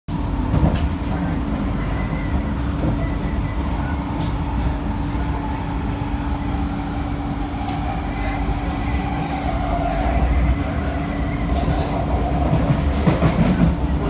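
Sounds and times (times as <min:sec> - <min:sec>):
train wheels rumbling on track: 0:00.1 - 0:14.0.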